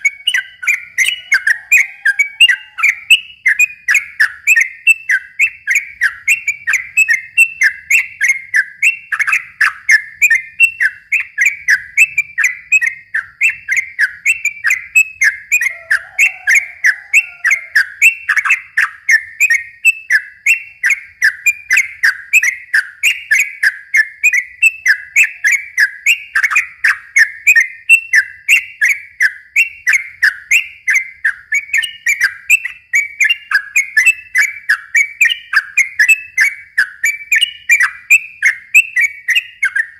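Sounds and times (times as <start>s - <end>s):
bird singing fast whistled notes: 0.0s - 39.9s.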